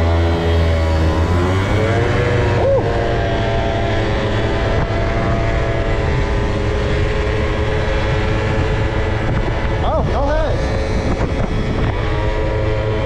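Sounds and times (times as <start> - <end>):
scooter engine running: 0.0 - 13.0
wind rumble on microphone: 0.0 - 13.0.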